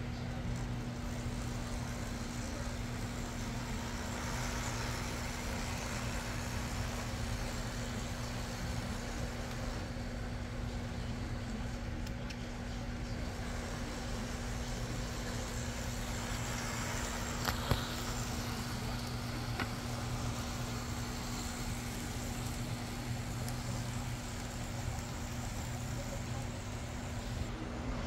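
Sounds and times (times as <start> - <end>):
model locomotive hum and hiss: 0.0 - 28.0.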